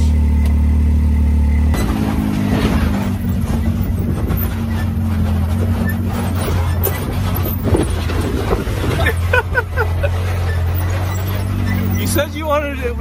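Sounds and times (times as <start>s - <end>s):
off-road vehicle engine: 0.0s - 13.0s
rumble and rattle on rocky trail: 0.0s - 13.0s.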